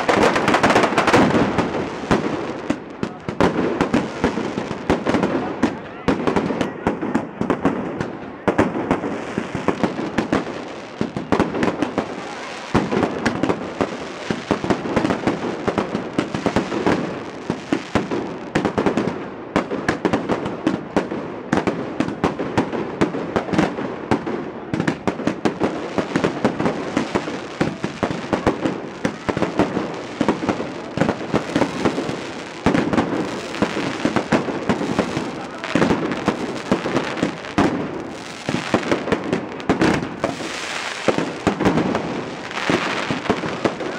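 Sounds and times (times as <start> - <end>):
firecrackers banging and crackling: 0.0 - 43.9.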